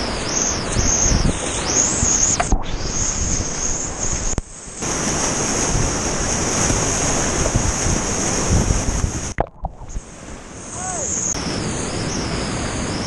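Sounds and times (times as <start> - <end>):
wind buffeting microphone: 0.0 - 10.5
whitewater rushing and splashing: 0.0 - 13.0.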